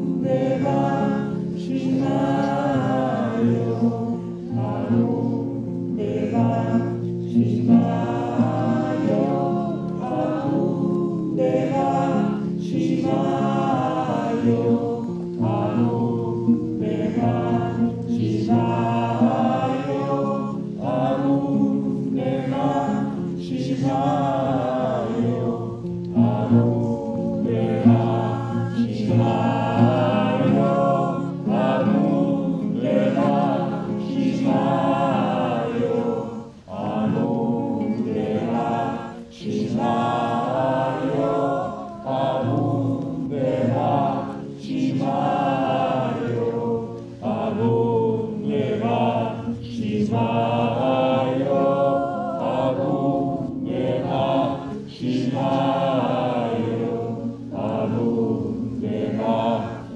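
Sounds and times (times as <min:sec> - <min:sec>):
voices singing a chant: 0:00.0 - 0:59.9.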